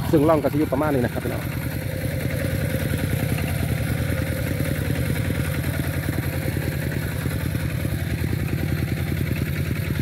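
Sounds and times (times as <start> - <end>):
diesel engine chugging: 0.0 - 10.0.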